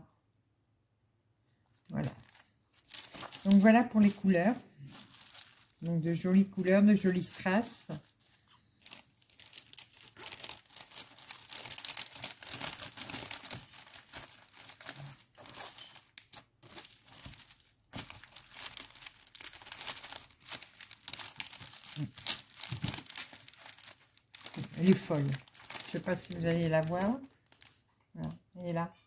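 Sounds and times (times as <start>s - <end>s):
packaging crinkling: 1.9s - 28.3s.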